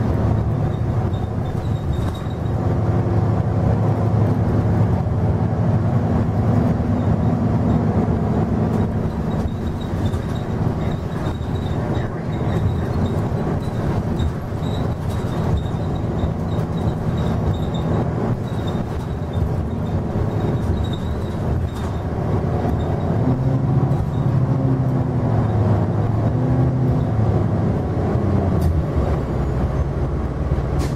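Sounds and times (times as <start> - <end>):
bus engine drone: 0.0 - 30.9
road noise: 0.0 - 30.9.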